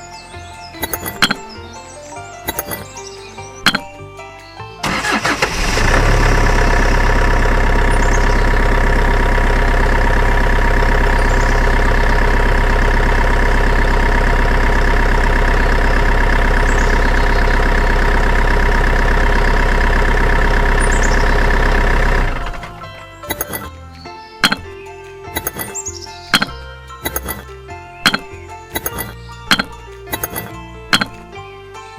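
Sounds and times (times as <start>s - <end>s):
small engine running: 0.8s - 1.5s, 4.8s - 23.7s, 24.4s - 31.2s.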